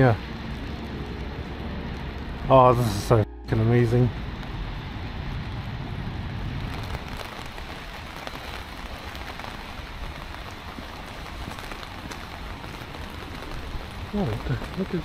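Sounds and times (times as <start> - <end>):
rain on pavement and foliage: 0.0 - 15.0.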